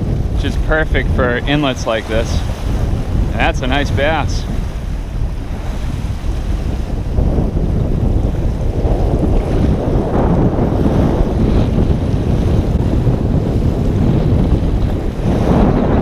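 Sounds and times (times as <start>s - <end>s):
waves breaking on shore: 0.0s - 16.0s
wind buffeting microphone: 0.0s - 16.0s.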